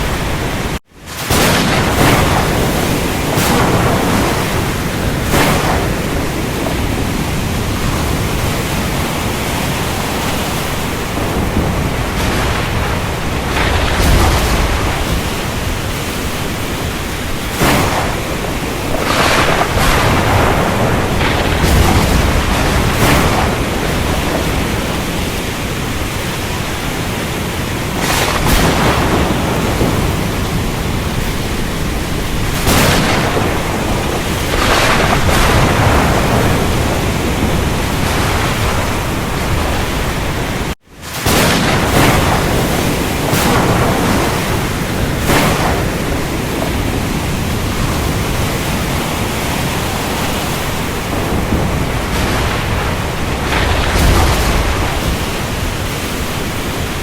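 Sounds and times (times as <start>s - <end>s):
low thunder rumble: 0.0s - 57.0s
sharp thunder: 0.0s - 57.0s
steady rain: 0.0s - 57.0s.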